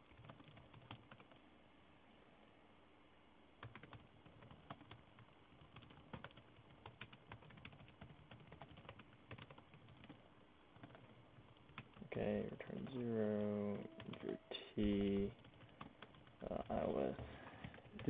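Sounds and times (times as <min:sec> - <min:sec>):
keyboard typing clicks: 0:00.1 - 0:01.4, 0:03.6 - 0:10.2, 0:10.8 - 0:18.0.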